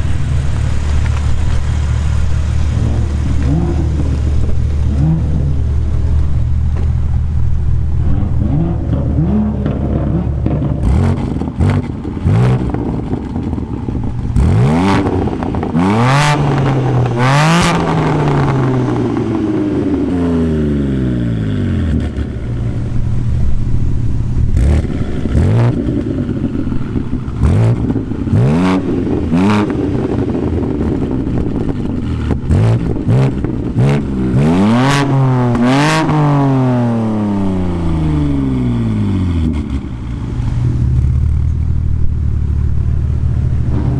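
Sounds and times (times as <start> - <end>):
car engine idling and revving: 0.0 - 43.9
exhaust pops and crackles: 0.0 - 43.9.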